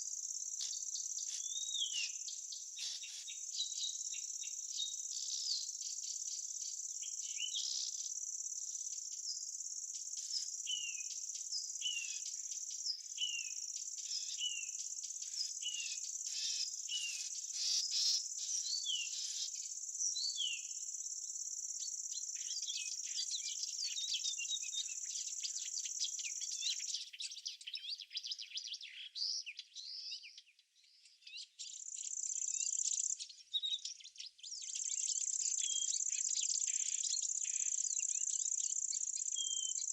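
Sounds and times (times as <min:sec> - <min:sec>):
insects trilling: 0:00.0 - 0:27.6, 0:34.7 - 0:39.9
bird chirping: 0:00.0 - 0:39.9.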